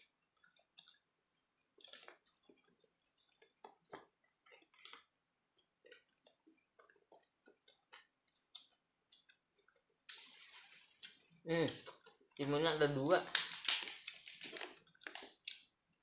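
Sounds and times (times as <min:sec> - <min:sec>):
chewing: 0:00.0 - 0:12.4, 0:13.7 - 0:15.8.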